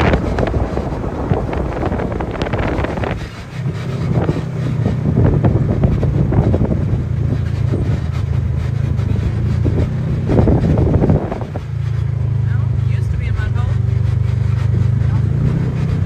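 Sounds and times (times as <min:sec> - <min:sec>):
rattles and knocks: 0:00.0 - 0:16.0
utility vehicle engine running: 0:00.0 - 0:16.0
wind on microphone: 0:00.0 - 0:16.0.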